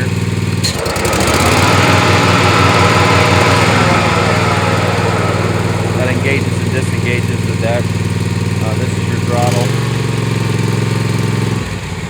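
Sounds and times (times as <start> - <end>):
mower blades spinning: 0.0 - 9.8
mower petrol engine running: 0.0 - 12.0.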